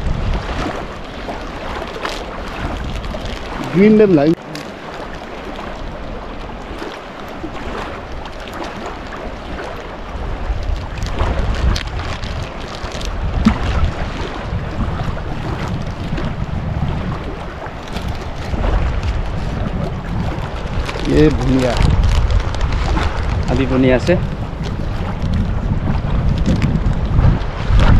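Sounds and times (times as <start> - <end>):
fast-flowing river: 0.0 - 27.9
wind gusting on microphone: 0.0 - 27.9.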